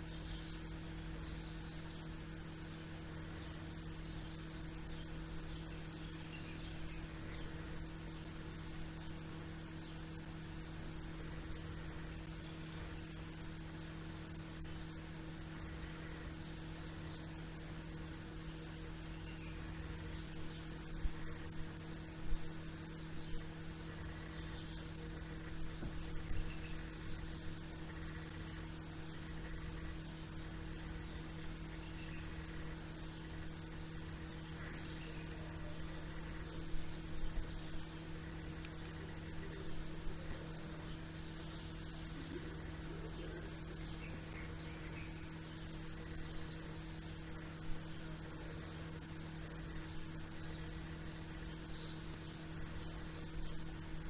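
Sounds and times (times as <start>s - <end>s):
background hiss: 0.0s - 54.0s
small birds chirping: 0.0s - 54.0s
steady hum: 0.0s - 54.0s.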